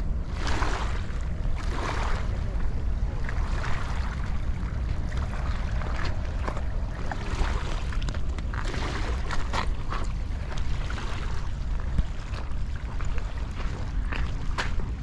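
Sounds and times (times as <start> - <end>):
waves lapping on pebble shore: 0.0 - 15.0
wind rumble on microphone: 0.0 - 15.0.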